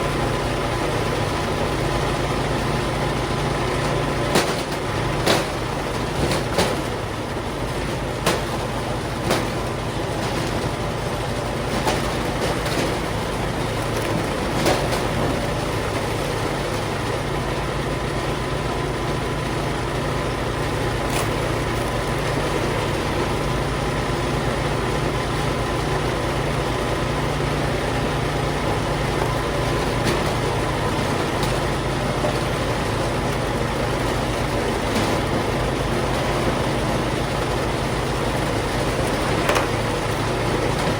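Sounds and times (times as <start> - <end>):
machinery engine running: 0.0 - 40.9.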